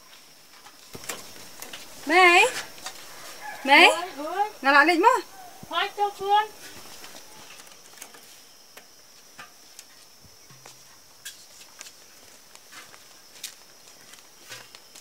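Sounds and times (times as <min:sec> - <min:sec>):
footsteps in sandals on dirt: 0:00.0 - 0:15.0.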